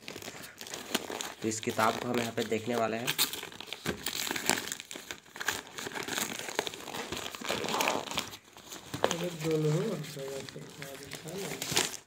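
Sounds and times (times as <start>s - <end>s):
paper envelope crinkling: 0.0s - 12.0s.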